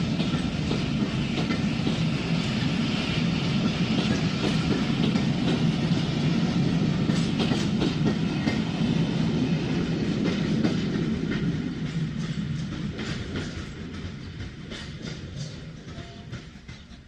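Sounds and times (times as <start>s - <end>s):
wheels clicking over rail joints: 0.0s - 9.0s, 9.7s - 17.0s
train coaches rumbling past: 0.0s - 17.0s.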